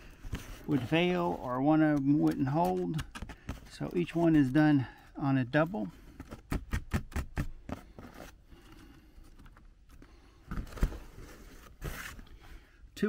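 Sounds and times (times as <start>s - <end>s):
cable shifting on cardboard: 0.0s - 4.8s, 6.0s - 12.5s.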